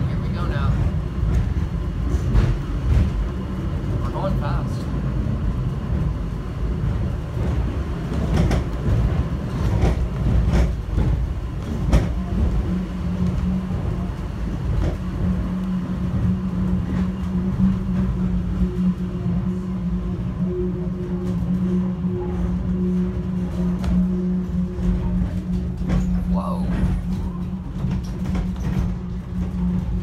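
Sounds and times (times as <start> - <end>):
steady low hum: 0.0 - 30.0
subway train rumble: 0.0 - 30.0
train knocks and rattles: 0.0 - 30.0.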